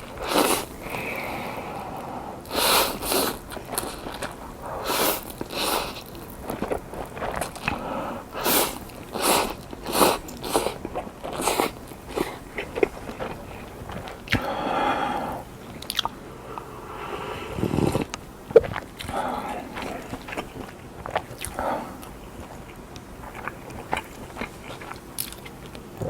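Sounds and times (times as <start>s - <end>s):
person chewing crunchy food: 0.0s - 16.7s, 17.5s - 26.0s.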